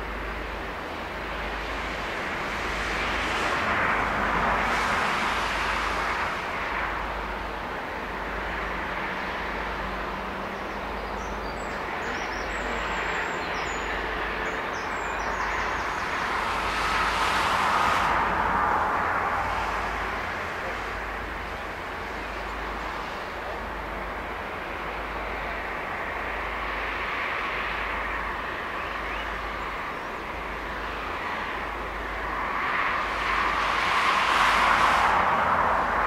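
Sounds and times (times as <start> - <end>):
cars passing close by: 0.0 - 36.0.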